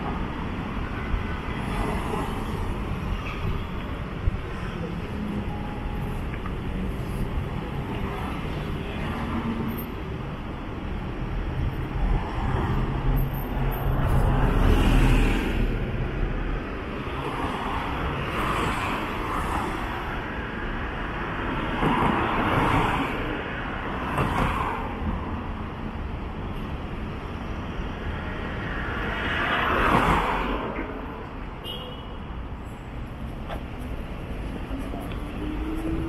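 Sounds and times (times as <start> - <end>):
cars passing on street: 0.0 - 36.0.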